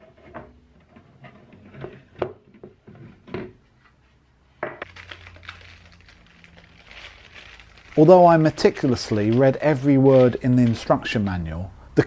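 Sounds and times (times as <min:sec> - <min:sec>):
soft handling noise: 0:00.0 - 0:11.7.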